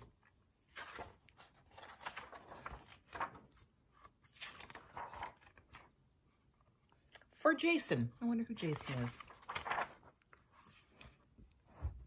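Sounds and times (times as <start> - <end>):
book pages turning: 0.0 - 7.3, 8.6 - 12.0.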